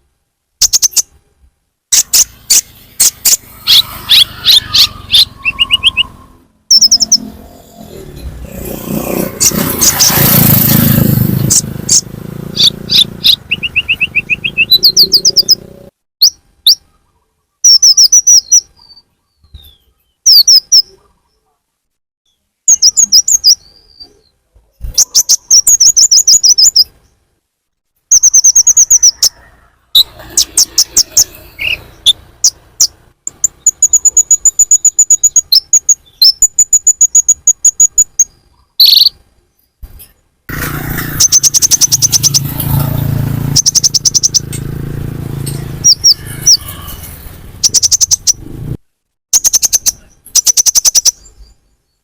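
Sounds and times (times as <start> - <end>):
bird chirps and trills: 0.6 - 1.2, 1.9 - 21.5, 22.3 - 27.3, 28.1 - 40.2, 40.9 - 52.0.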